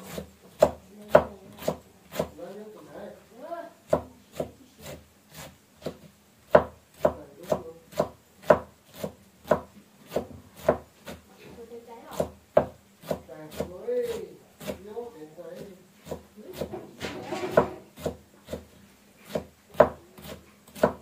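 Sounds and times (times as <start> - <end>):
knife chopping on wooden block: 0.0 - 2.3, 3.9 - 11.2, 12.1 - 14.8, 16.0 - 21.0.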